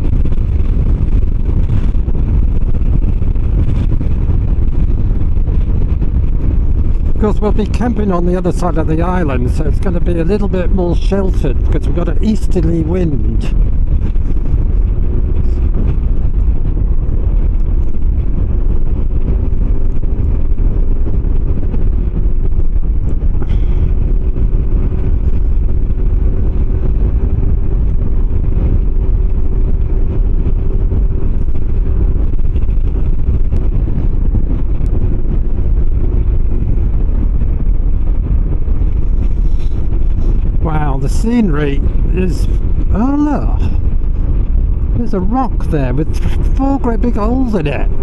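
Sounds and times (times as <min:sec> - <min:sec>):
road rumble: 0:00.0 - 0:48.0
wind on microphone: 0:00.0 - 0:48.0.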